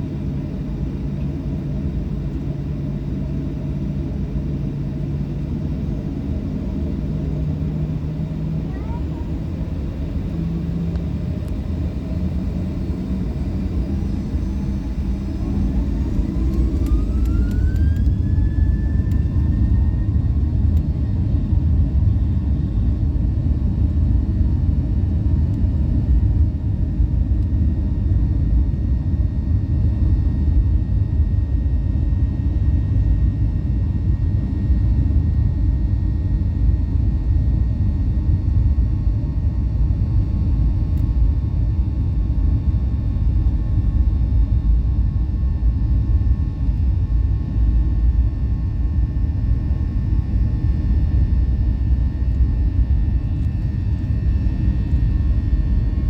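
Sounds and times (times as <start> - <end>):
jet engine rumble: 0.0 - 56.0
jet engine whine: 0.0 - 56.0.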